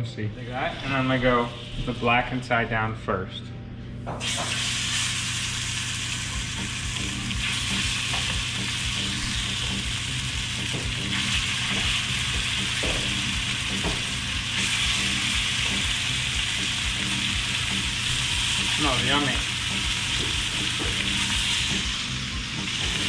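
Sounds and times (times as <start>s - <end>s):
fish sizzling in hot oil: 4.2s - 23.0s.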